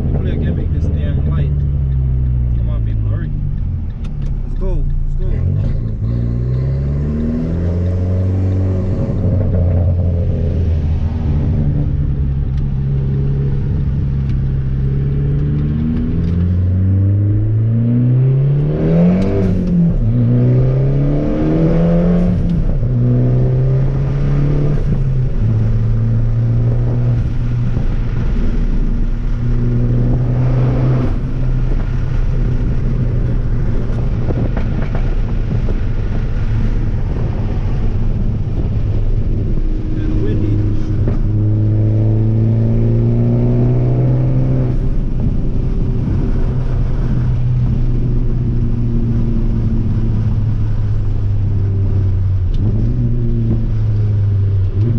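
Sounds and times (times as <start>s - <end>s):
wind noise: 0.0s - 2.4s, 5.3s - 54.9s
car engine accelerating through gears: 0.0s - 54.9s.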